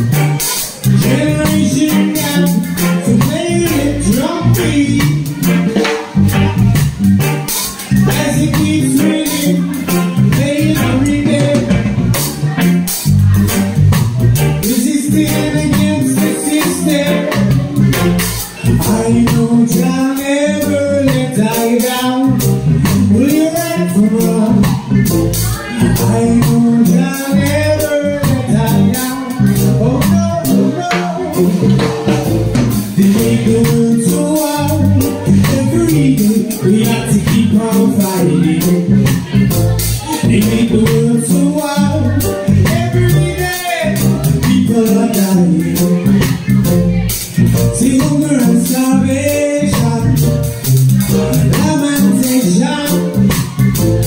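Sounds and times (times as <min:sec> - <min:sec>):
bass guitar: 0:00.0 - 0:54.0
drums with cymbals: 0:00.0 - 0:54.0
keyboard: 0:00.0 - 0:54.0
person singing: 0:00.0 - 0:54.0.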